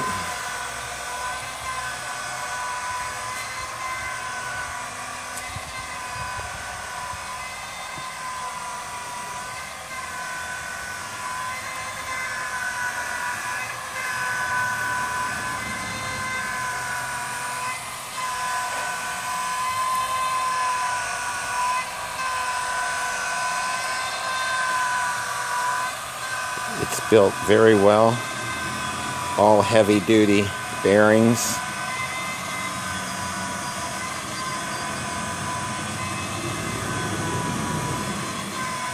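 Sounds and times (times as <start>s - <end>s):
electric motor pump whining: 0.0s - 38.9s.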